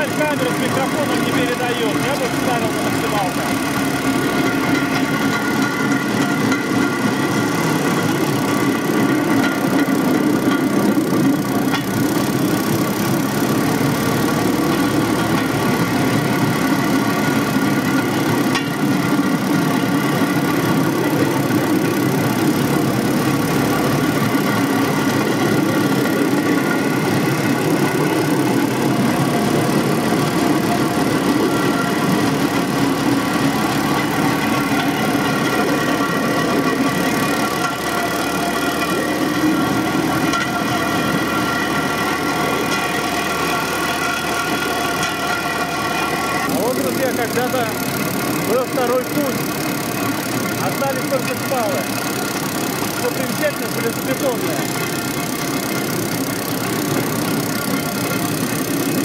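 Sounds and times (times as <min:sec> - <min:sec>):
railcart engine droning: 0:00.0 - 0:59.0.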